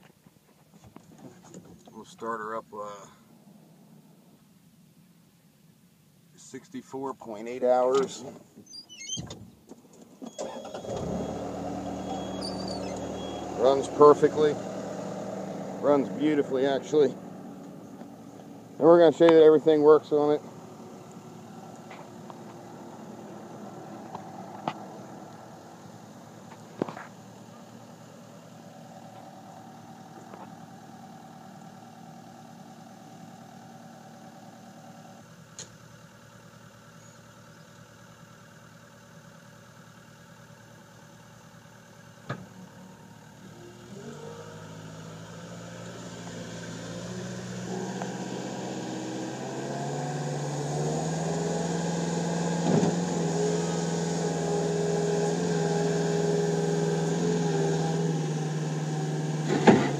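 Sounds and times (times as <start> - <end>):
diesel engine idling and revving: 10.2 - 59.9.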